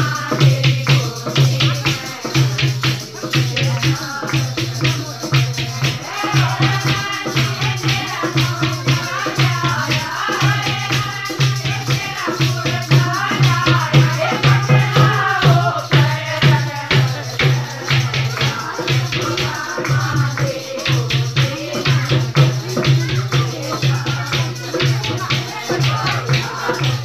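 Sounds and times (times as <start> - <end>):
hand-clapping: 0.0 - 12.2, 16.1 - 27.0
dholak drum beat: 0.0 - 27.0
women singing together: 0.0 - 27.0.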